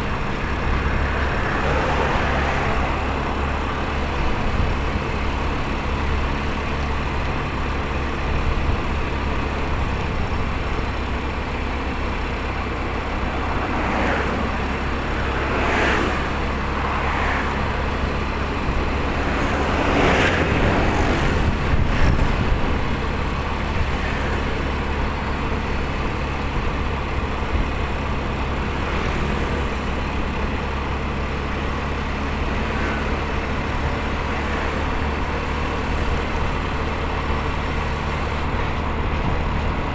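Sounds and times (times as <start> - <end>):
motorcycle road and wind noise: 0.0 - 39.9
vehicles passing by: 0.0 - 39.9.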